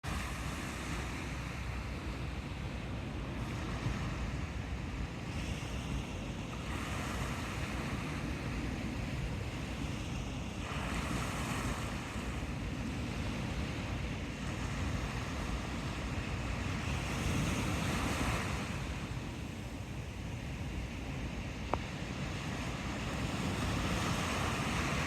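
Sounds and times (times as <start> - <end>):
ocean surf washing in: 0.0 - 25.0
wind buffeting microphone: 0.1 - 25.0.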